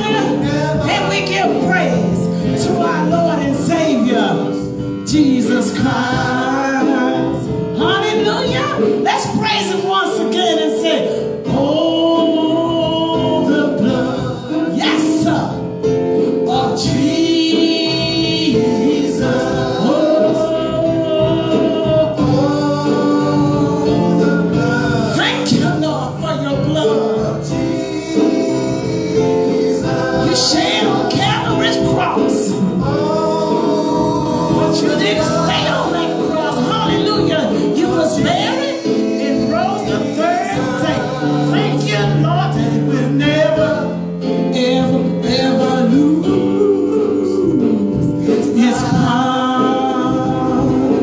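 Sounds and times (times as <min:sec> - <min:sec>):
gospel choir singing in harmony: 0:00.0 - 0:51.0.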